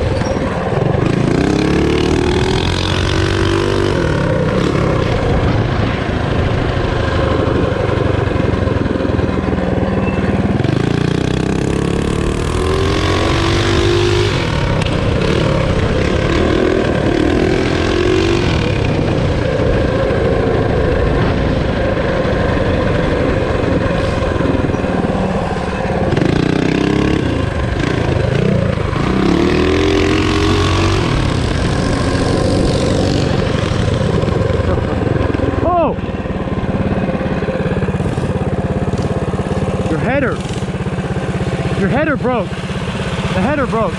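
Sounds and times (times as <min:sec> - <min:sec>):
small engine revving: 0:00.0 - 0:21.7, 0:22.4 - 0:36.0, 0:36.7 - 0:43.9.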